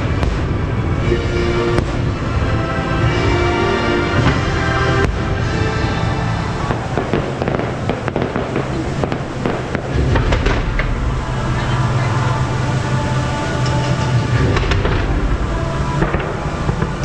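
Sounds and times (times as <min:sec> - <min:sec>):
fireworks cracking and banging: 0:00.0 - 0:17.0
music playing: 0:00.0 - 0:17.0.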